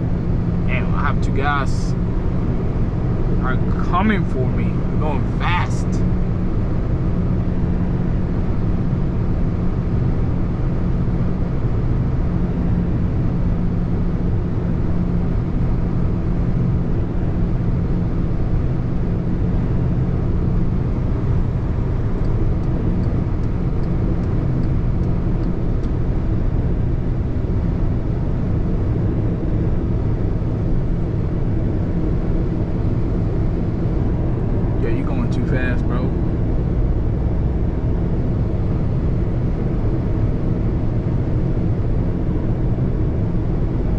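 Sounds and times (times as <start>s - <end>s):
car engine and tyre drone: 0.0s - 43.9s.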